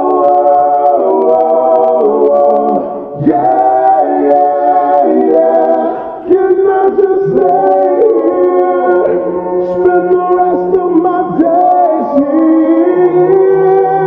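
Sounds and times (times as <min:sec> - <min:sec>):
song with layered singing: 0:00.0 - 0:14.0.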